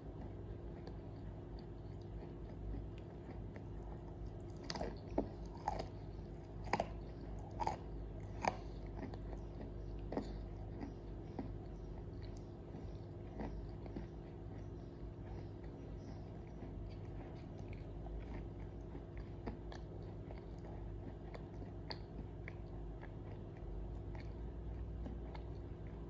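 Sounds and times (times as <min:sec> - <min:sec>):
crunching while chewing: 0:00.0 - 0:26.0
steady low hum: 0:00.0 - 0:26.0.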